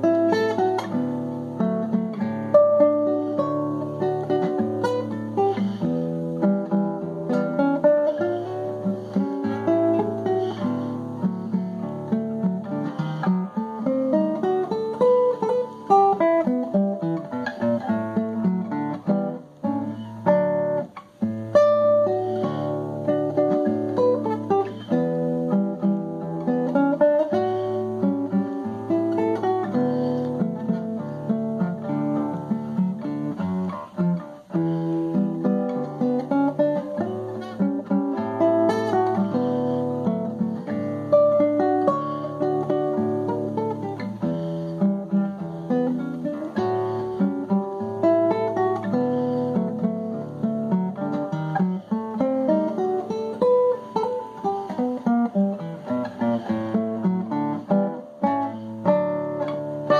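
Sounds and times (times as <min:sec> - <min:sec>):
fingerpicked classical guitar: 0:00.0 - 0:59.9.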